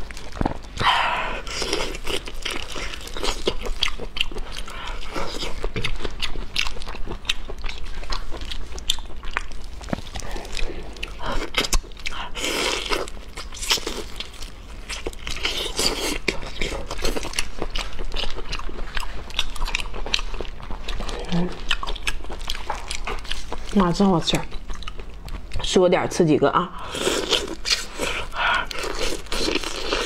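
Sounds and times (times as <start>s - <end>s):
wet chewing: 0.0s - 25.8s, 26.8s - 30.0s.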